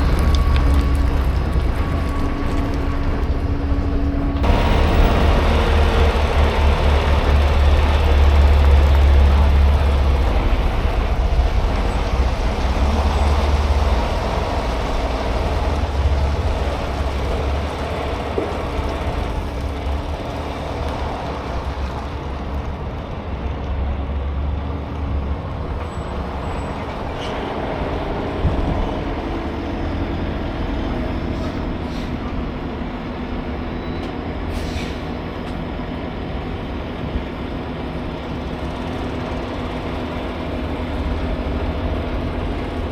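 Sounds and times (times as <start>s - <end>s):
road noise: 0.0s - 42.9s
truck engine rumbling: 0.0s - 42.9s.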